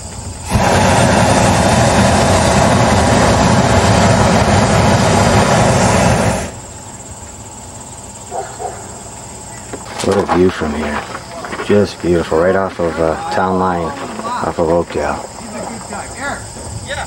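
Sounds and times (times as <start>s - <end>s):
propane burner blast: 0.0s - 7.6s, 9.5s - 16.9s.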